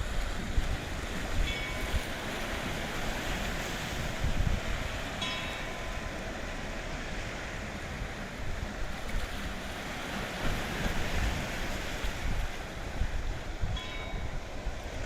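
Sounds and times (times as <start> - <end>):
sea waves washing: 0.0 - 15.0
wind buffeting microphone: 0.0 - 15.0.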